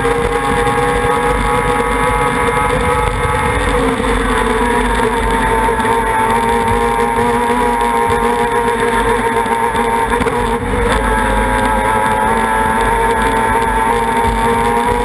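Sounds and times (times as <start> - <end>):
outboard motor running flat out: 0.0 - 15.0.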